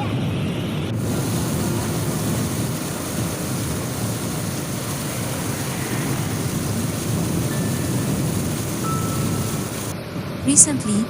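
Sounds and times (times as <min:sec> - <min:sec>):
strong wind: 0:00.0 - 0:10.4
heavy rain: 0:00.8 - 0:10.0.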